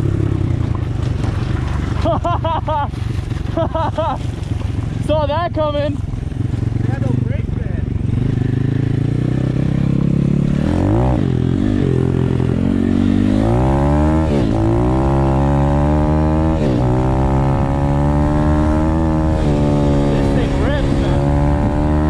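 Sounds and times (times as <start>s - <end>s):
dirt bike engine shifting gears: 0.0s - 22.0s.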